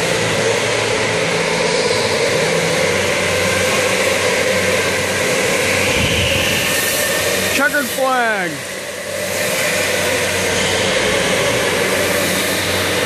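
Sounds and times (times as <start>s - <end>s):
electric go-karts whirring: 0.0s - 13.0s.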